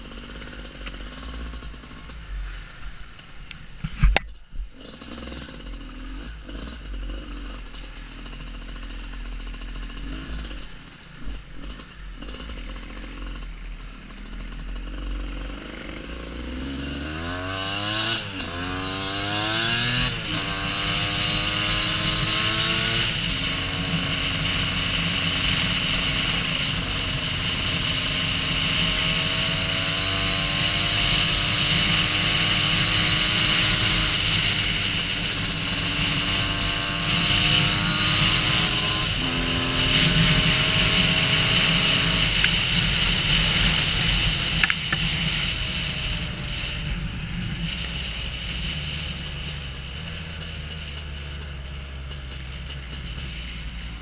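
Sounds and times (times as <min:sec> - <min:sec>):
motorcycle engine accelerating: 0:00.0 - 0:02.8, 0:03.8 - 0:54.0.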